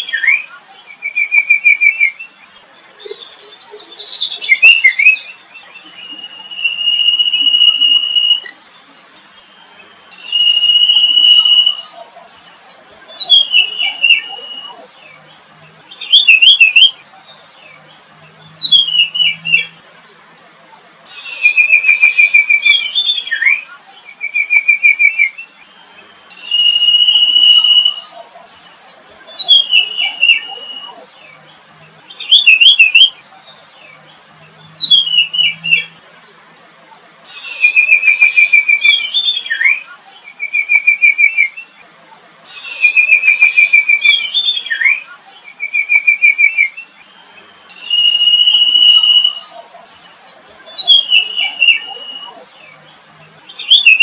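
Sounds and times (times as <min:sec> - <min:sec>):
songbird singing whistled phrases: 0:00.0 - 0:12.1, 0:12.7 - 0:20.1, 0:20.7 - 0:28.3, 0:28.9 - 0:36.3, 0:36.9 - 0:49.7, 0:50.3 - 0:54.0.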